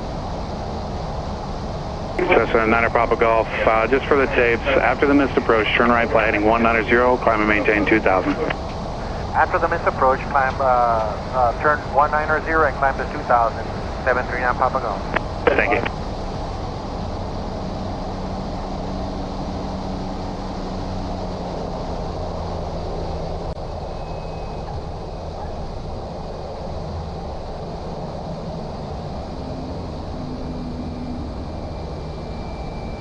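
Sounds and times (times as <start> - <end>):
turboprop engine droning: 0.0 - 33.0.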